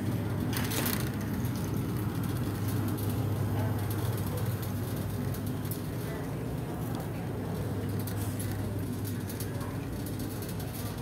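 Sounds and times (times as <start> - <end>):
shopping cart rumbling: 0.0 - 11.0.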